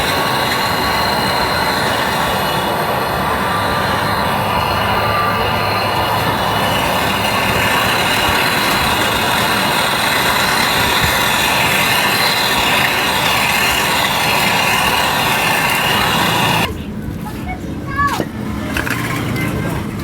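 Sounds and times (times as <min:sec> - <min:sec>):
heat gun blowing: 0:00.0 - 0:16.7.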